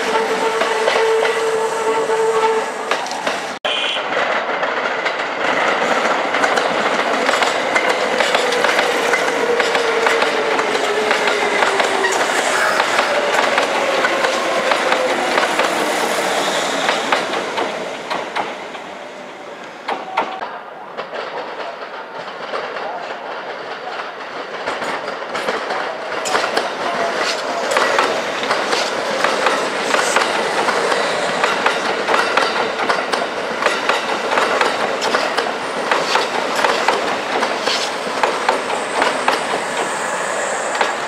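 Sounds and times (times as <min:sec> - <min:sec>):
train wheels clacking over rail joints: 0:02.8 - 0:18.8, 0:19.9 - 0:41.0.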